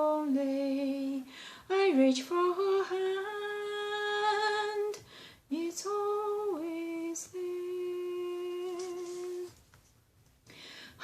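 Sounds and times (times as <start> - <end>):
woman singing unaccompanied: 0.0 - 9.6.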